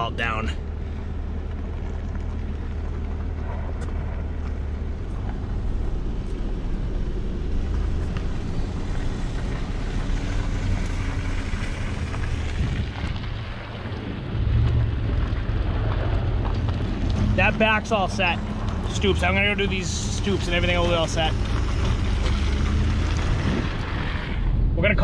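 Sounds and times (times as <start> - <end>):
road and air noise: 0.0 - 25.0
truck engine rumbling: 0.0 - 25.0.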